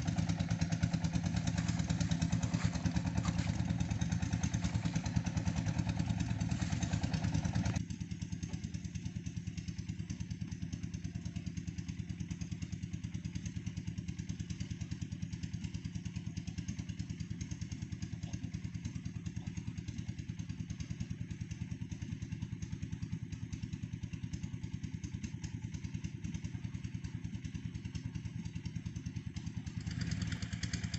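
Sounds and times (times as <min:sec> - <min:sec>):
engine running with rapid pulse: 0:00.0 - 0:30.9.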